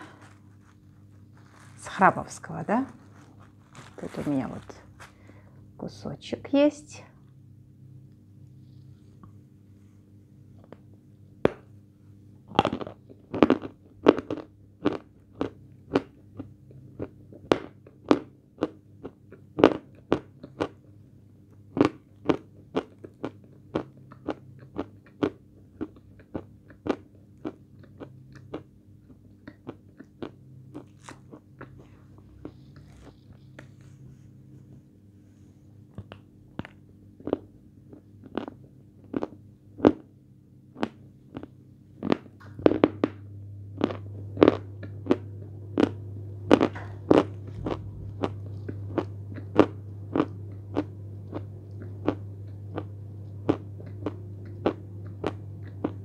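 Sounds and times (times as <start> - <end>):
crunching and chewing chalk: 0.0 - 2.2, 2.8 - 5.3, 12.4 - 33.9, 35.9 - 40.1, 40.7 - 56.0.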